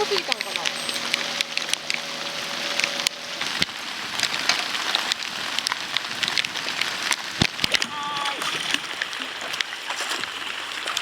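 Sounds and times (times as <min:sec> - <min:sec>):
sharp raindrop hits: 0:00.0 - 0:09.7
heavy rain falling: 0:00.0 - 0:10.7.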